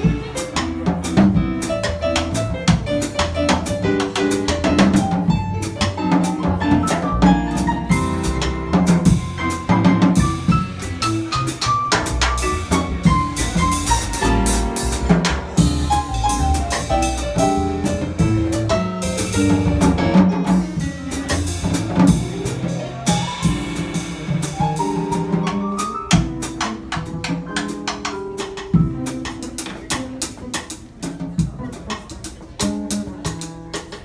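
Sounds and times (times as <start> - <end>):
busy drumming: 0.0 - 34.0
jazz trio playing: 0.0 - 34.0.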